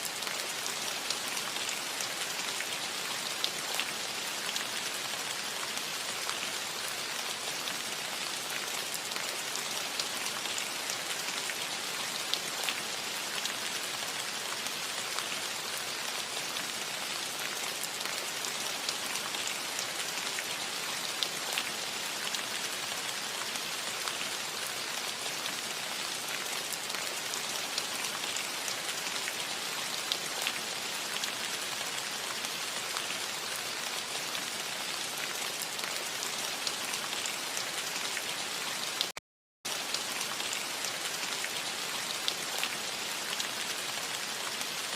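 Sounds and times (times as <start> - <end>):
rain hissing on a roof: 0.0 - 44.9.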